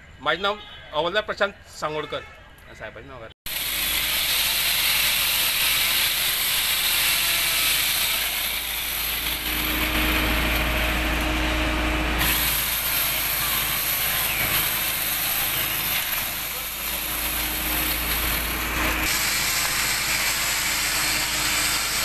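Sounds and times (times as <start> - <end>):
chainsaw cutting wood: 3.5 - 22.0.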